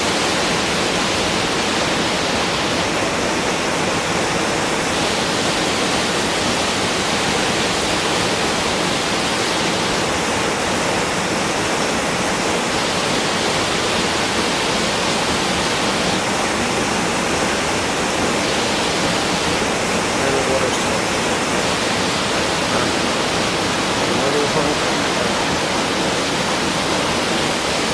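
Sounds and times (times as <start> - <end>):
rushing water: 0.0 - 27.9.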